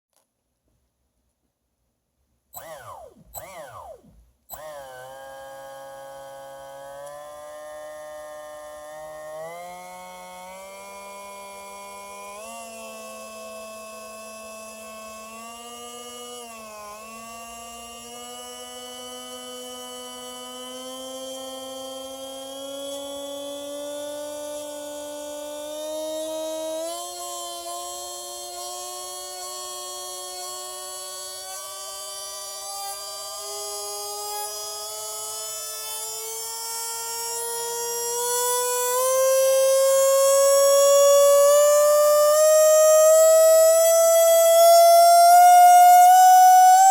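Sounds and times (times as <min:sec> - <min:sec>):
electric motor whining: 0:02.6 - 0:46.9.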